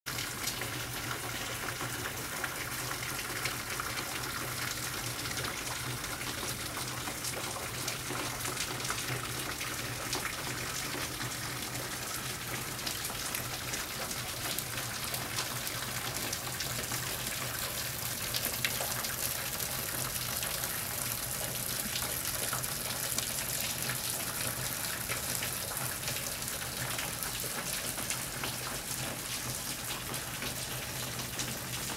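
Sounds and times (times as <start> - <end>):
rain on a window: 0.1 - 31.9.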